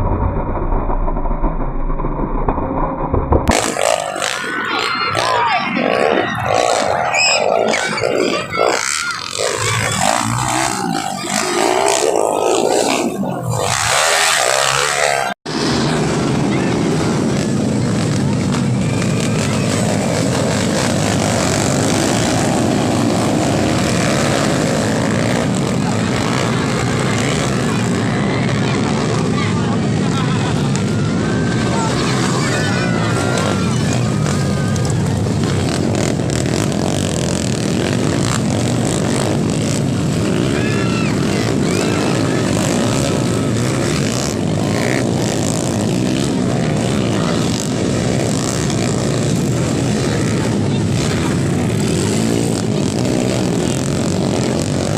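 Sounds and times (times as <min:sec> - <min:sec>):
motorcycle engines racing: 0:03.3 - 0:54.9.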